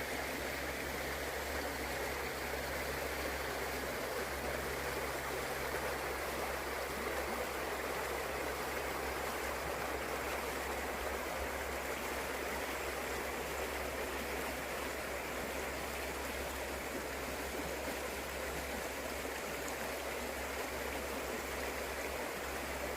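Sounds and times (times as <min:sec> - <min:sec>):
river flowing and gurgling: 0:00.0 - 0:22.9.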